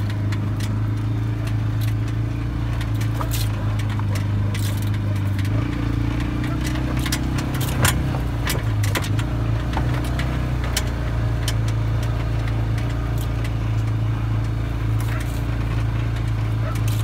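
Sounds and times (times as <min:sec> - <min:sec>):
loose parts rattling: 0:00.0 - 0:17.0
utility vehicle engine running: 0:00.0 - 0:17.0.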